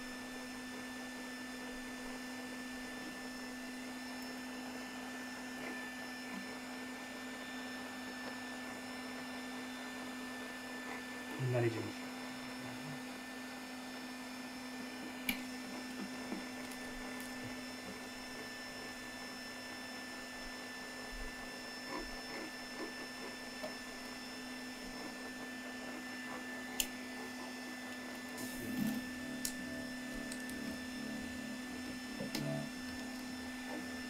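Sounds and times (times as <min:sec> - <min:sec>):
machine humming: 0:00.0 - 0:34.0.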